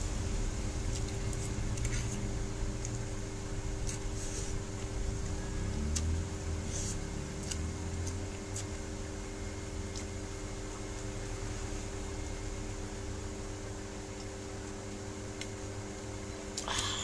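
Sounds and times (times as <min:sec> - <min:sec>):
electrical hum with low tones: 0:00.0 - 0:17.0.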